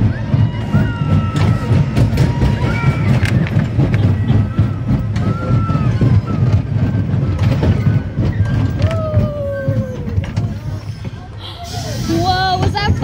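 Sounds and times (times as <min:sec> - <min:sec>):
roller coaster rumbling on track: 0:00.0 - 0:13.0.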